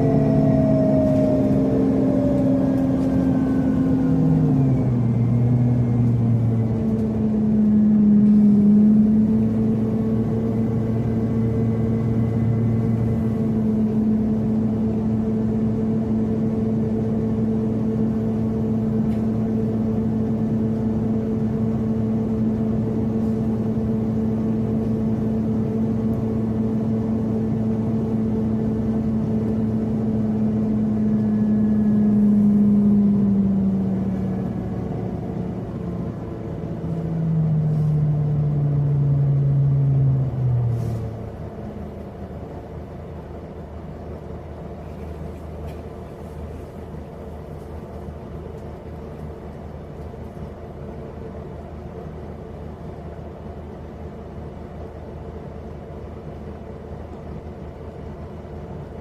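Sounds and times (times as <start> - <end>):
bus engine rumble: 0.0 - 59.0
bus whine: 0.0 - 59.0.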